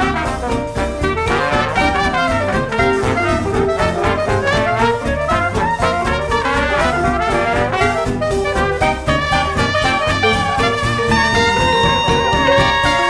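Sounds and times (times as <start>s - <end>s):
jazz music with brass horns: 0.0s - 13.0s.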